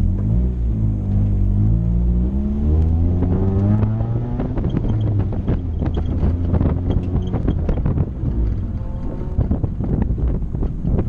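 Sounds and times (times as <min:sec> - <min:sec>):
car engine accelerating: 0:00.0 - 0:11.0
wind noise on microphone: 0:00.9 - 0:11.0.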